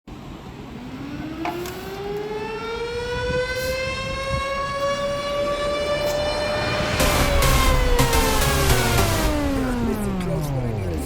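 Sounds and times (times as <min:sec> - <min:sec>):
siren winding up: 0:01.0 - 0:10.6.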